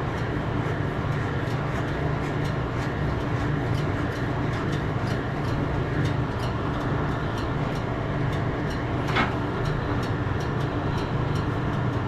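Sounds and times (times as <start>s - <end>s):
machine running with ticks: 0.0s - 12.0s.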